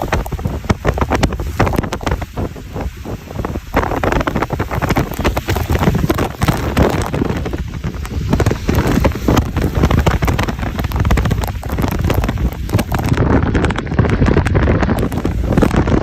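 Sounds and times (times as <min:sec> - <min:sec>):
heavy rain falling: 0:00.0 - 0:16.0
wind buffeting microphone: 0:00.0 - 0:16.0.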